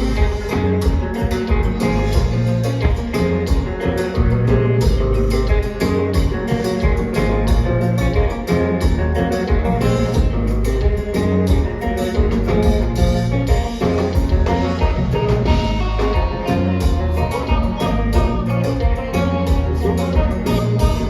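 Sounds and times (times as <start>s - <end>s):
bass guitar: 0.0s - 21.0s
drums keeping a steady beat: 0.0s - 21.0s
electric guitar: 0.0s - 21.0s.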